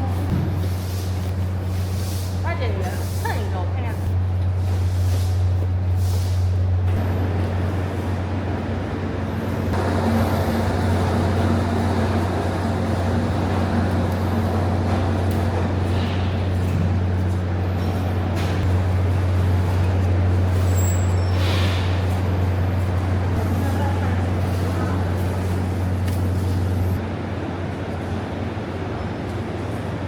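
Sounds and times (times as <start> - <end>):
factory machinery hum: 0.0 - 30.0.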